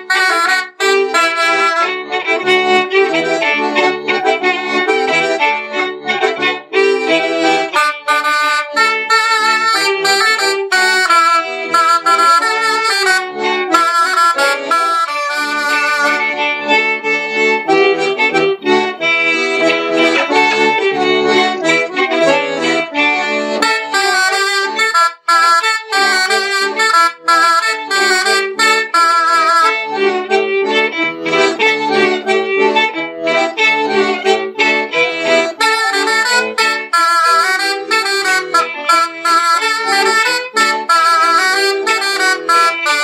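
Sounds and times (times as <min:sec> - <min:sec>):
button accordion: 0:00.0 - 0:43.0
fiddle: 0:00.0 - 0:43.0
flutes playing folk dance tune: 0:00.0 - 0:43.0.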